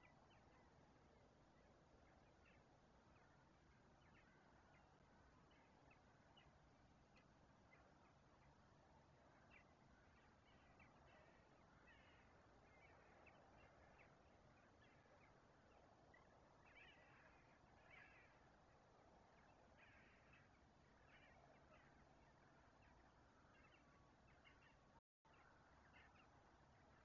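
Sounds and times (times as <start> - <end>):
low background hiss: 0.0 - 27.0
distant bird calls: 1.5 - 27.0.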